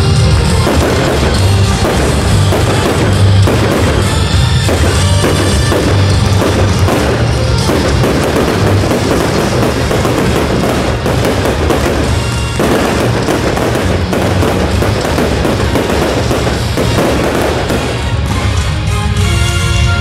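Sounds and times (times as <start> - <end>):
fireworks crackling and banging: 0.0 - 20.0
loud music over speakers: 0.0 - 20.0.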